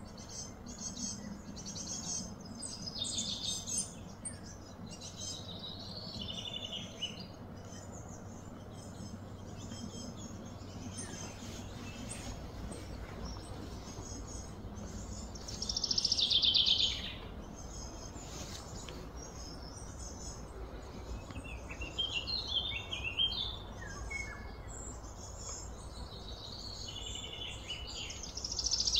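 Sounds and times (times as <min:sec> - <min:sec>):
birds chirping and calling: 0:00.0 - 0:28.9
steady low rumble: 0:00.0 - 0:28.9.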